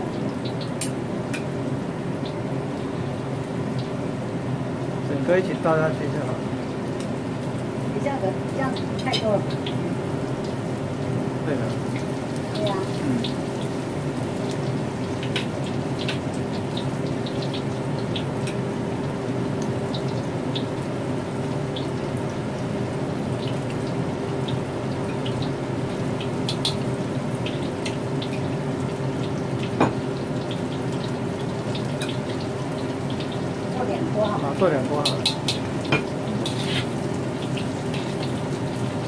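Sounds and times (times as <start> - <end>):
chicken deep-frying in oil: 0.0 - 39.0.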